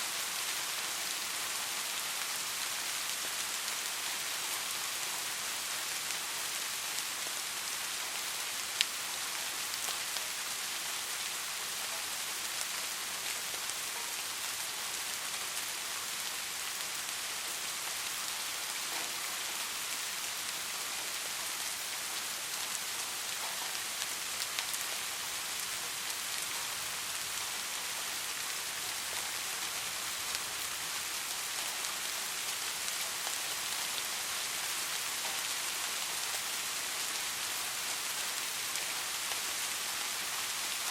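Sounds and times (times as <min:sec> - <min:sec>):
soft rainfall hiss: 0:00.0 - 0:40.9.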